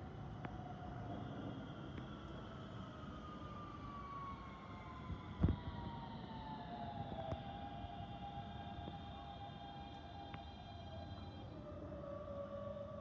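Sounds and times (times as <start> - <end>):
subway train motors whining: 0.0 - 13.0.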